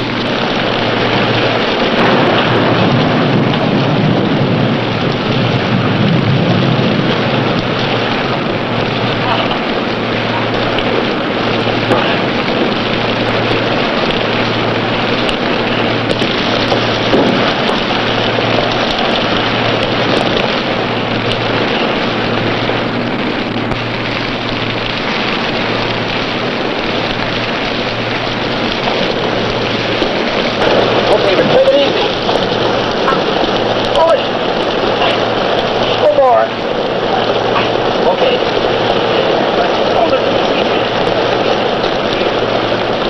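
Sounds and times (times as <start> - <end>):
heavy rain and wind hiss: 0.0 - 43.0
low pulsing hum: 0.0 - 43.0.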